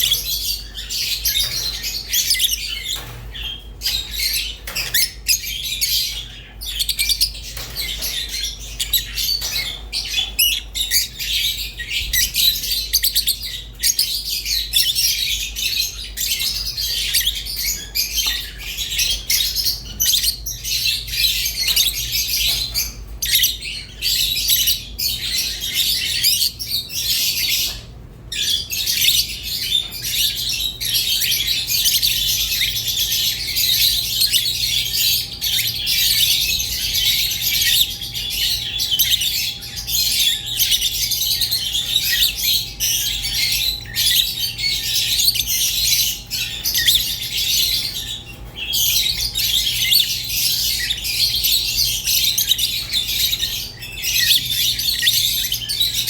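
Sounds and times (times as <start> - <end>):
lovebirds chattering and chirping: 0.0 - 56.0.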